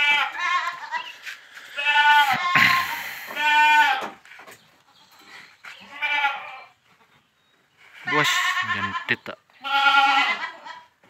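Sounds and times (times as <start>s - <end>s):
goats bleating: 0.0s - 4.2s, 4.8s - 6.8s, 8.0s - 11.0s.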